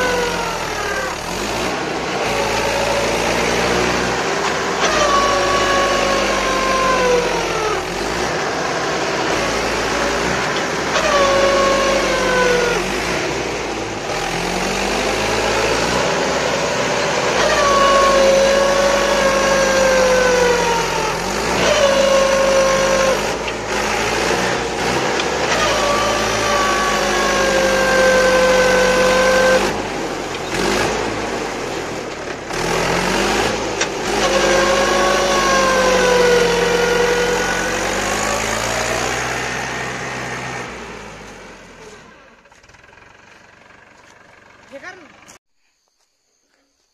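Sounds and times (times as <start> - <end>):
tractor diesel engine labouring: 0.0 - 45.4.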